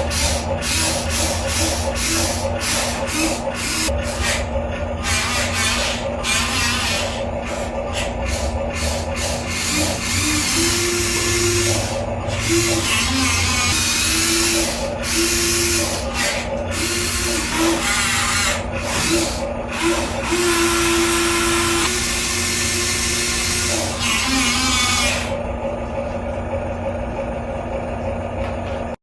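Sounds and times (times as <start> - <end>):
strained hydraulic tone: 0.0 - 25.4
excavator engine running: 0.0 - 29.0.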